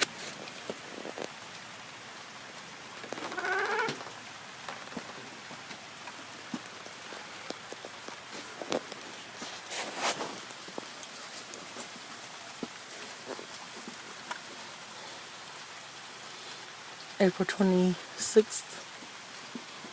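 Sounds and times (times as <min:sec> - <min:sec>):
rain falling: 0:00.0 - 0:19.9.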